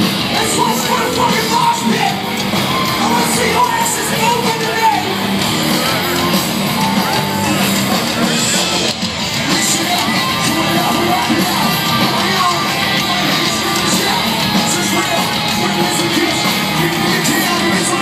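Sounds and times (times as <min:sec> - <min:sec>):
live rock band playing: 0:00.0 - 0:18.0
person singing: 0:00.2 - 0:18.0.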